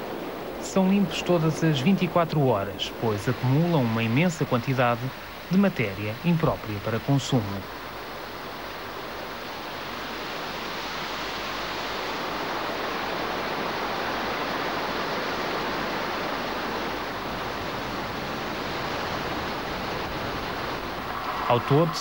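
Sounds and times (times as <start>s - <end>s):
water rushing and splashing: 0.0s - 22.0s.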